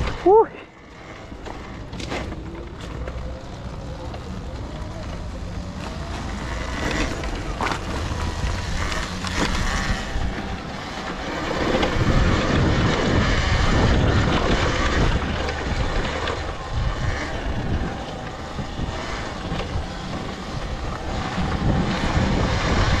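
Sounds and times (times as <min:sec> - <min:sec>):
tyres rolling over dirt and leaves: 0:00.0 - 0:23.0
wind rushing over microphone: 0:01.0 - 0:23.0.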